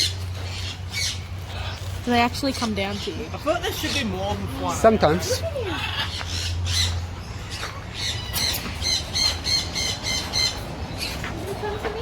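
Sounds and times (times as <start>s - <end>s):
birds squawking: 0.0s - 12.0s.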